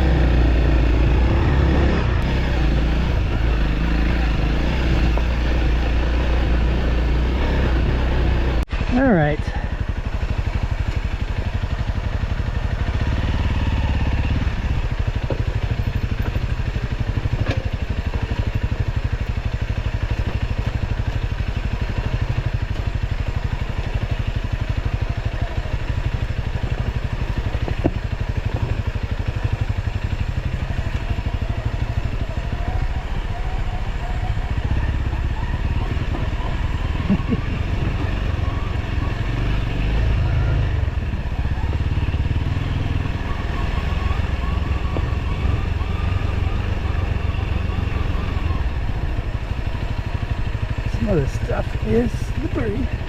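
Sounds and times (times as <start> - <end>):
motorcycle running on road: 0.0 - 53.0.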